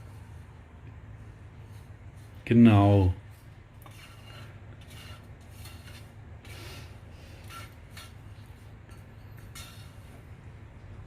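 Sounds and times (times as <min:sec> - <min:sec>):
rubbing and scraping strokes: 0:00.0 - 0:10.3
steady low hum: 0:00.0 - 0:11.0.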